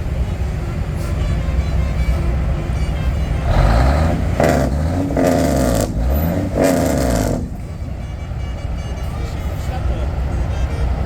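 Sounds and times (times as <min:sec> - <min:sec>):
truck diesel engines revving: 0:00.0 - 0:11.0.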